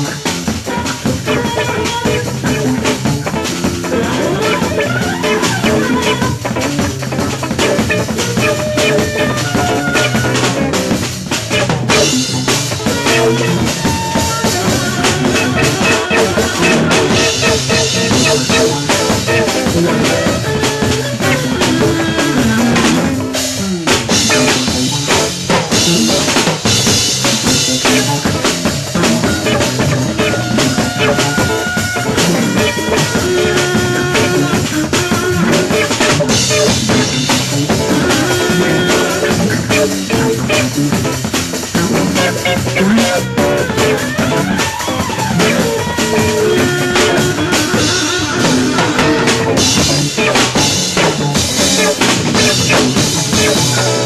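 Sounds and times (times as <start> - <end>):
large jazz ensemble playing: 0.0 - 54.0.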